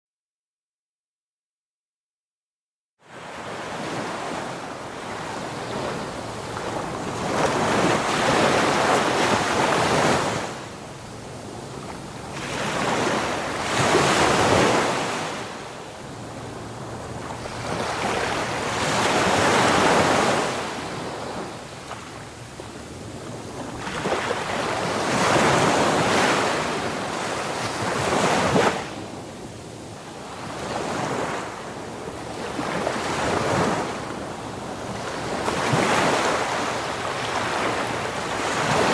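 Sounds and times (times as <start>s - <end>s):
waves breaking on a beach: 3.1s - 38.9s.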